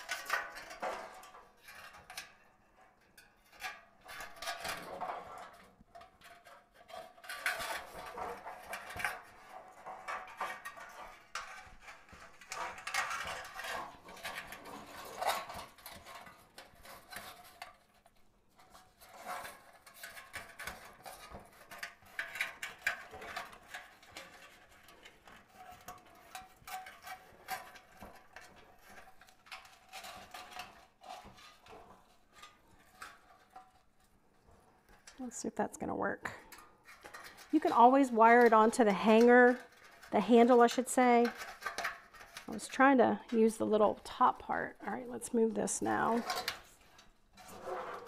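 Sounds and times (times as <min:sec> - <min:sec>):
small clicks and clinks on metal: 0:00.0 - 0:35.4, 0:36.3 - 0:47.2
rustling of artificial foliage: 0:00.0 - 0:48.0.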